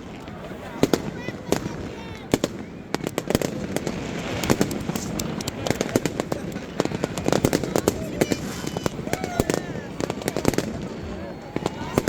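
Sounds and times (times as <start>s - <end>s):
crowd talking and cheering: 0.0s - 12.0s
fireworks cracking and banging: 0.0s - 12.0s.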